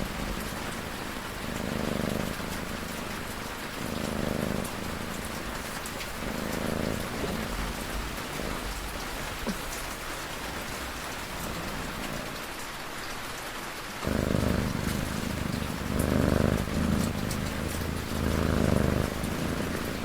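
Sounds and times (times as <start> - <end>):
cat snoring: 0.0 - 12.5, 14.0 - 20.0
steady rain falling: 0.0 - 20.0.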